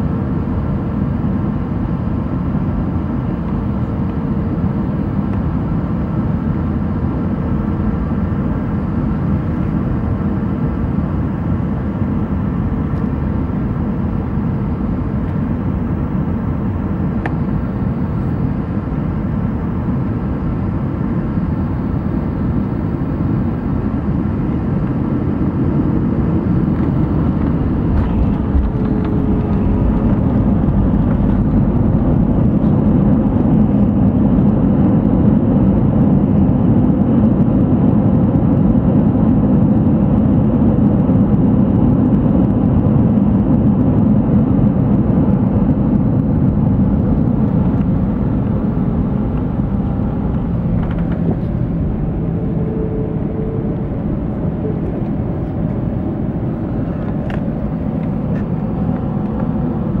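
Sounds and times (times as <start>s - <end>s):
aircraft engines roaring: 0.0s - 60.0s.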